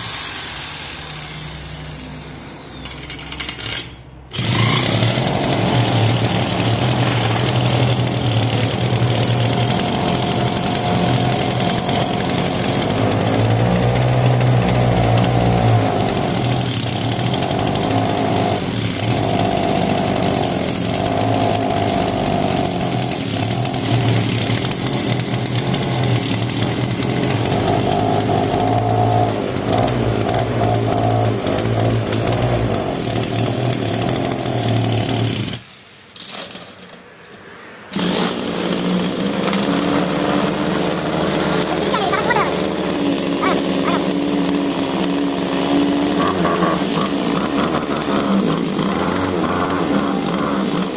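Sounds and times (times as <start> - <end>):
brush-cutter engine buzzing: 0.0 - 35.6, 37.9 - 50.9.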